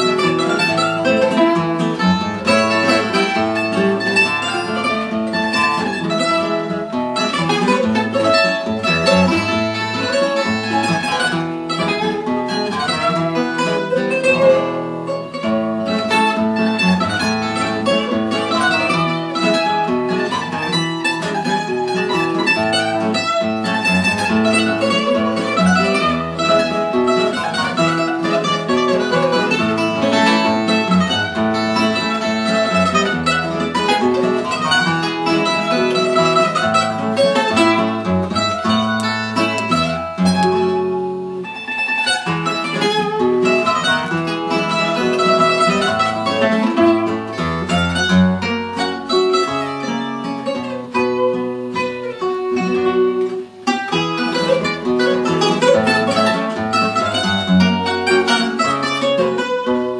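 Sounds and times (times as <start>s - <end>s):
acoustic guitar accompaniment: 0.0s - 59.9s
guitar picking bright melody: 0.0s - 59.9s.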